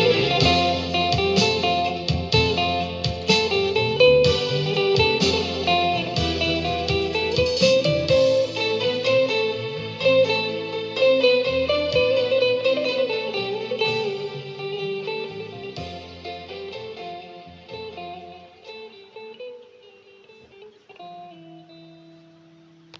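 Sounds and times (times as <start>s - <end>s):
instrumental guitar music: 0.0s - 22.9s.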